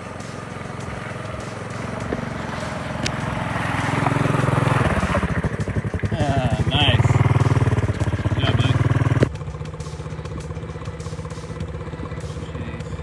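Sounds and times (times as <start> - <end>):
small trail bike engines: 0.0 - 13.0.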